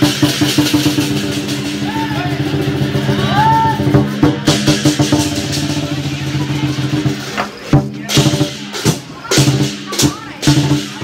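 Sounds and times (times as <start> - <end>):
drum beats: 0.0 - 11.0.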